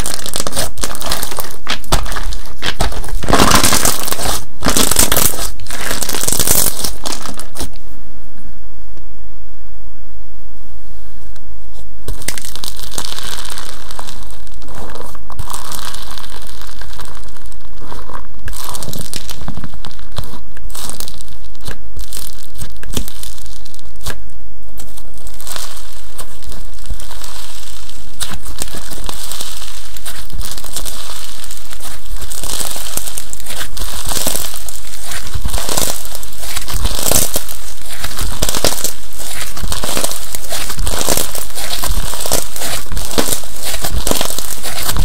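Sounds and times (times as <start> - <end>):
crunchy slime crackling and popping: 0.0 - 7.8, 12.1 - 45.0.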